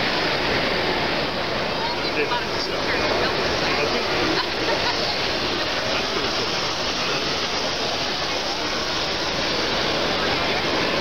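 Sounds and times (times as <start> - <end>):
crowd hubbub: 0.0 - 11.0.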